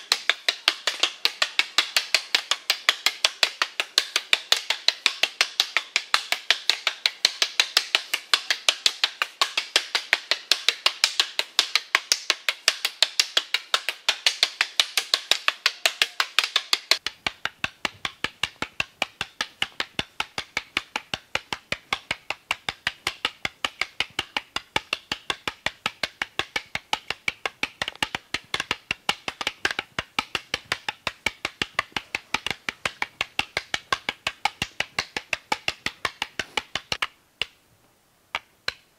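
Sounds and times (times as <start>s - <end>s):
sticks clacking together: 0.0s - 37.6s, 38.3s - 38.9s.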